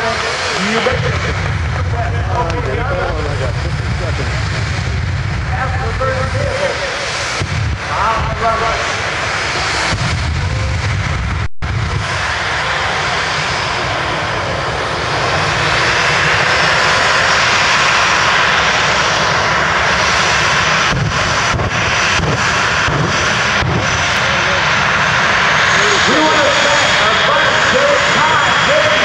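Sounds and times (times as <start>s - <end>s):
jet engine running loud: 0.0s - 29.0s.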